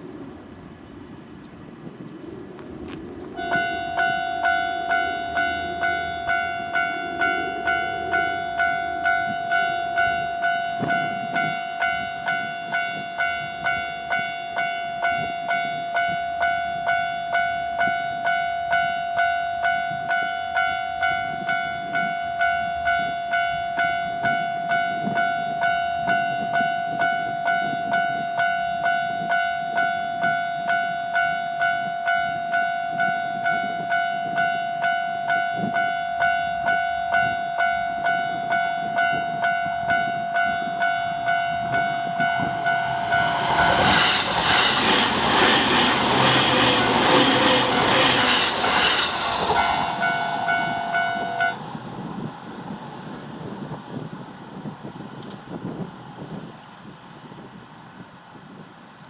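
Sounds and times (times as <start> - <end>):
level-crossing alarm dinging: 3.4 - 52.8.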